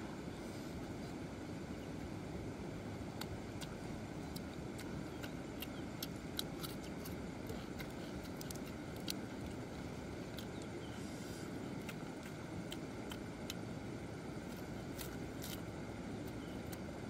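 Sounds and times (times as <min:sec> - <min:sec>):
person chewing: 0:03.1 - 0:16.9.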